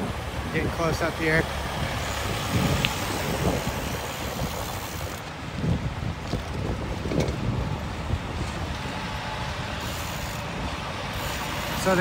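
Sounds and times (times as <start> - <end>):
heavy trucks rumbling: 0.0 - 12.0
wind buffeting microphone: 0.0 - 12.0.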